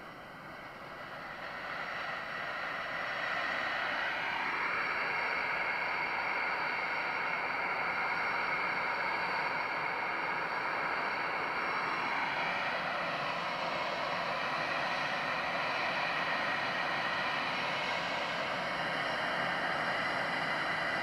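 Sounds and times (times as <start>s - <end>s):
high engine whine: 0.0s - 21.0s
jet engines running: 0.0s - 21.0s.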